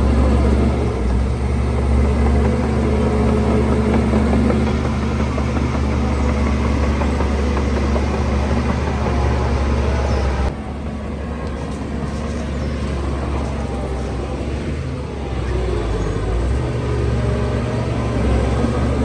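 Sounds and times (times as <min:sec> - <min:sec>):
heavy diesel engine humming: 0:00.0 - 0:19.0.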